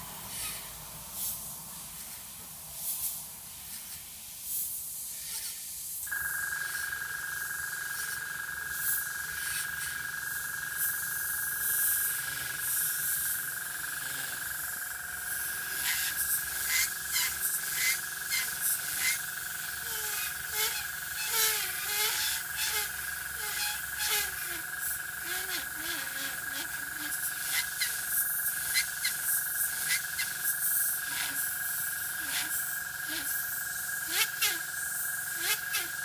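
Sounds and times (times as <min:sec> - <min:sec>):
airbrush hissing: 0:00.0 - 0:36.0
steady high-pitched whine: 0:00.0 - 0:36.0.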